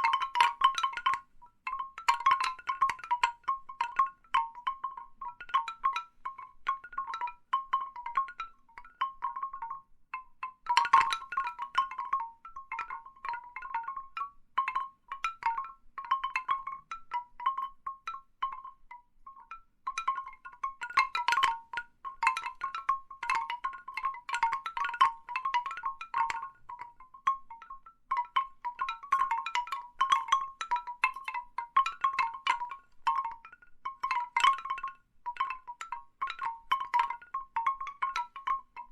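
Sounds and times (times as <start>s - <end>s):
bamboo wind chimes knocking: 0.0s - 38.9s.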